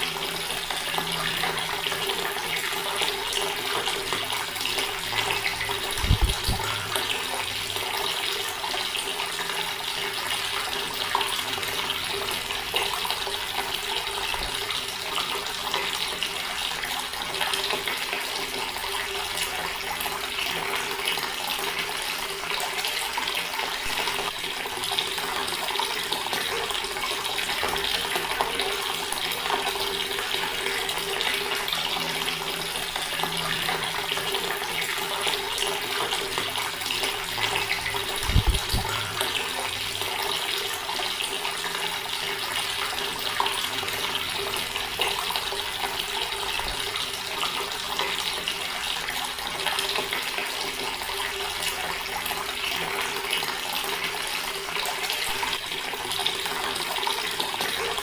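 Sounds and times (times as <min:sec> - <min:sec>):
tap water running and splashing: 0:00.0 - 0:58.0.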